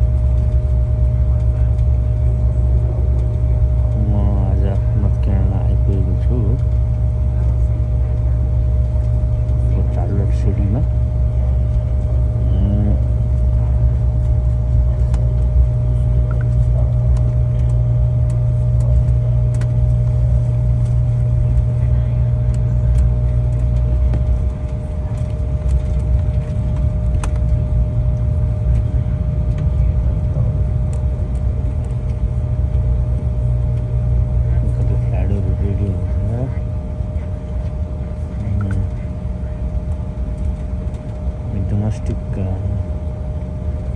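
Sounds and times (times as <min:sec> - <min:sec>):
jet engine rumble and whine: 0:00.0 - 0:43.9.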